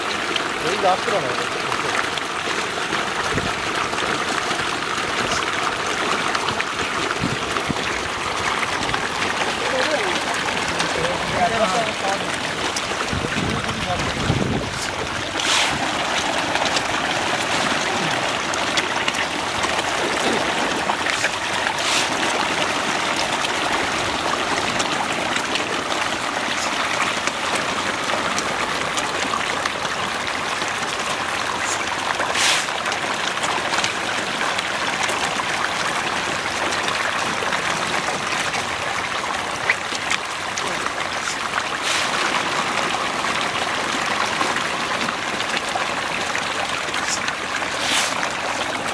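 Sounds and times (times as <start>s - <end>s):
fish splashing at water surface: 0.0s - 48.9s.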